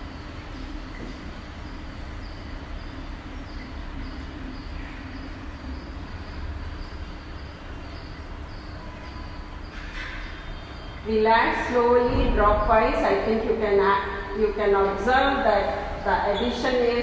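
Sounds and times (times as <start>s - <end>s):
room background rumble and hiss: 0.0s - 17.0s.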